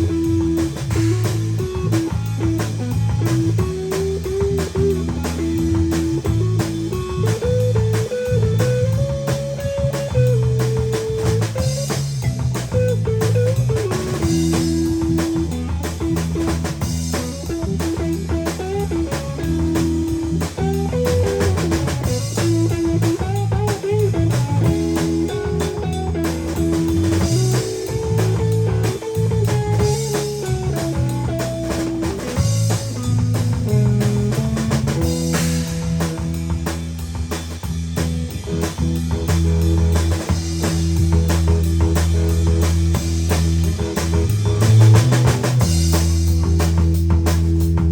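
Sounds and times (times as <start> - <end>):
bass: 0.0 - 47.9
blues guitar melody: 0.0 - 47.9
drum kit: 0.0 - 47.9.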